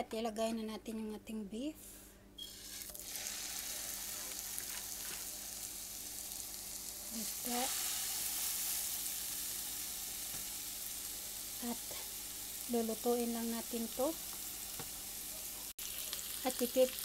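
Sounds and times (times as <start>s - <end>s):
meat patties sizzling in a frying pan: 2.5s - 17.0s.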